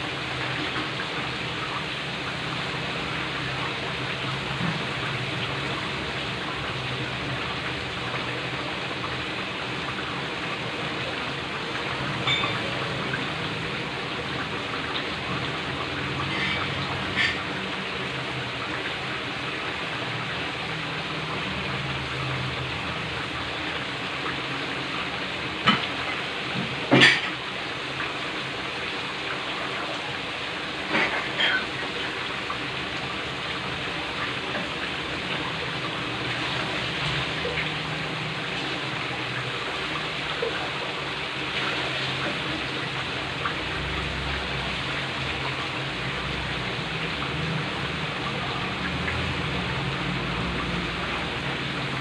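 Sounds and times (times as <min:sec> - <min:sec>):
chicken sizzling in hot oil: 0:00.0 - 0:52.0.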